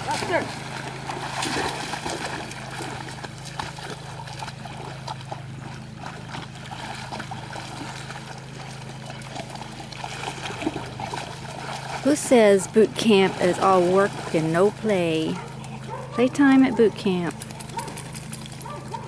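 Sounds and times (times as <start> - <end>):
dogs splashing in water: 0.0 - 19.0
steady low hum: 0.0 - 19.0.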